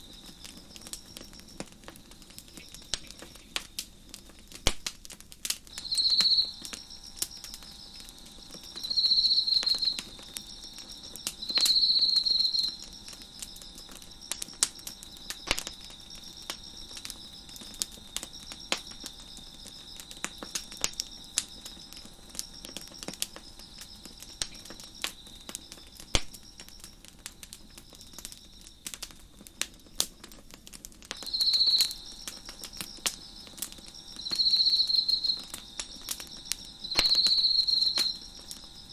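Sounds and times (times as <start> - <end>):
cricket chirping in loud trills: 0.0 - 4.6, 5.6 - 38.9
faint cricket trilling: 0.0 - 38.9
wood fire crackling and popping: 0.0 - 38.9.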